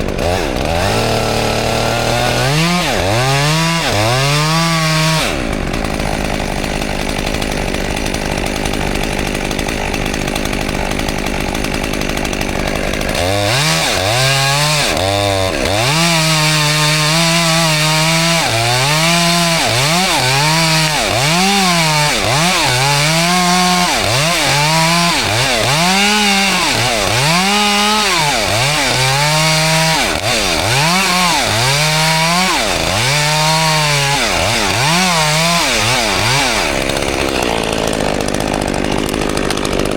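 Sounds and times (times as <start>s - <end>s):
chainsaw revving cutting wood: 0.0s - 39.9s.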